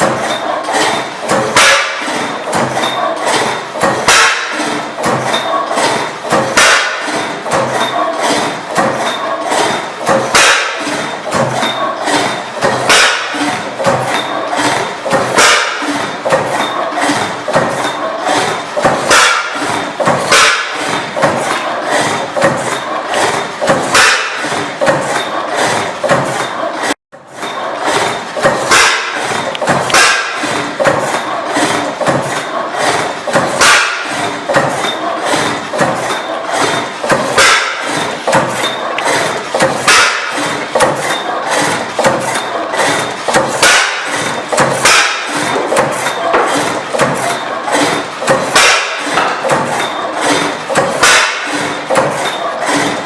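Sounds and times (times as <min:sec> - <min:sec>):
stationary engine clattering: 0:00.0 - 0:53.0.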